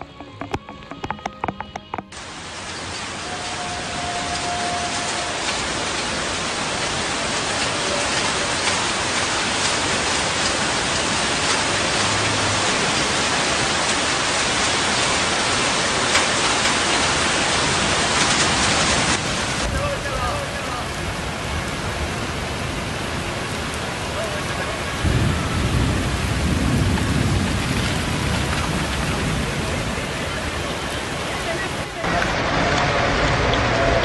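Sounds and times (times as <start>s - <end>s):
floodwater rushing: 0.0s - 34.0s
heavy rain: 2.1s - 34.0s.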